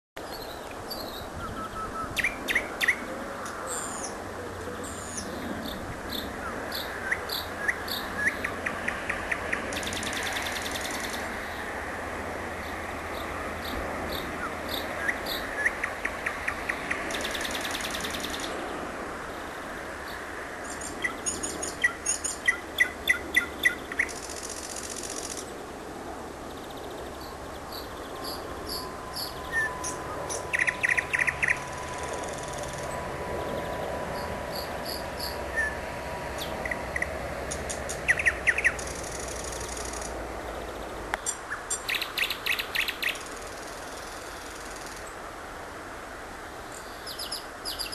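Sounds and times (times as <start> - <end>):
nightingale singing: 0.2 - 11.6, 13.1 - 18.6, 20.1 - 25.4, 26.8 - 35.8, 36.4 - 45.1, 46.7 - 47.9
steady background hiss: 0.2 - 47.9.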